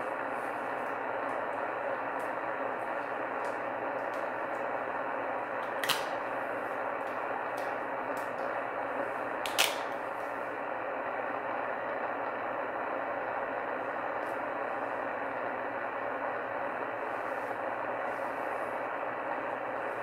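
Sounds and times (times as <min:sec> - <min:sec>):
radio static hiss: 0:00.0 - 0:20.0
sharp static click: 0:00.0 - 0:20.0.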